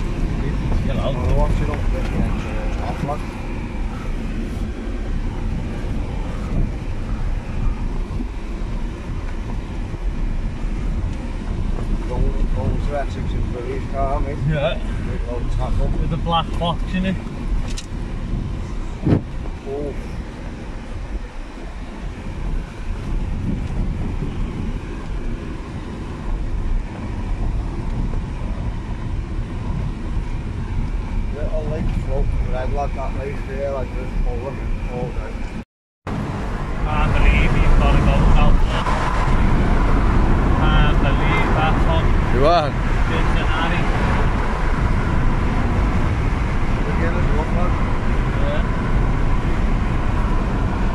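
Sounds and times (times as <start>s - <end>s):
wind on microphone: 0.0s - 32.7s, 33.9s - 50.9s
car driving on dirt track: 0.0s - 50.9s.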